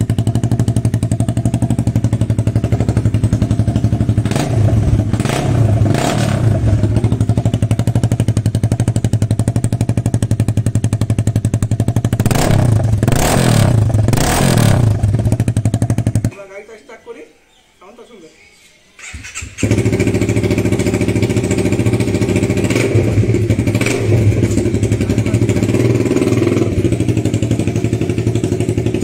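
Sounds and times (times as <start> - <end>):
motorcycle engine idling loudly: 0.0 - 16.3, 19.6 - 29.0
motorcycle throttle blips: 0.0 - 16.3, 19.0 - 29.0.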